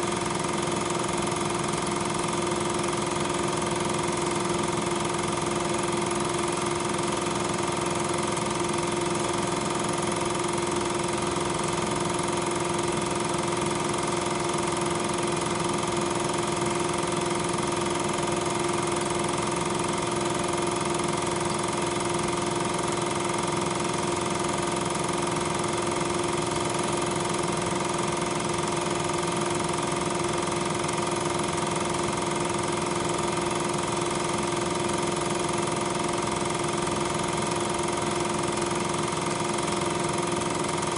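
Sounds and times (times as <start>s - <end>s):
film projector humming: 0.0s - 40.9s.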